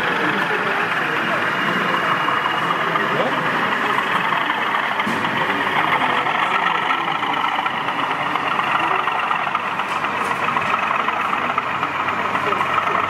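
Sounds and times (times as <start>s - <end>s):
hall noise: 0.0s - 13.0s
murmur of many voices: 0.0s - 13.0s.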